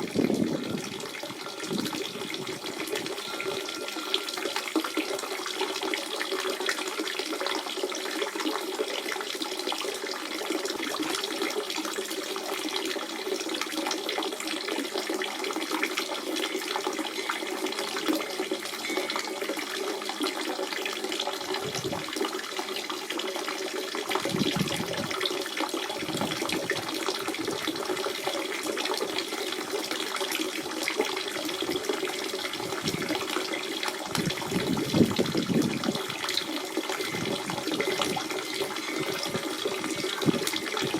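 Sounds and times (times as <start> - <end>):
spring water running and splashing: 0.0 - 40.9
water gurgling: 0.0 - 40.9.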